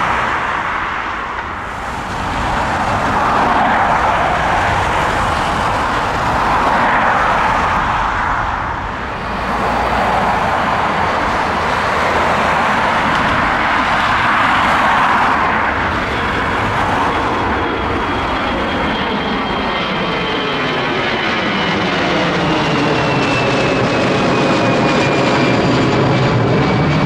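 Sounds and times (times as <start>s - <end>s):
jet engines at high thrust: 0.0s - 27.0s.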